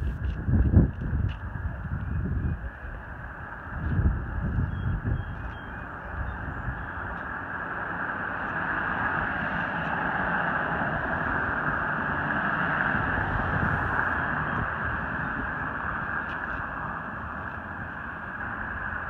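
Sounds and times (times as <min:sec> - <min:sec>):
vehicle tyre and road noise: 0:00.0 - 0:19.0.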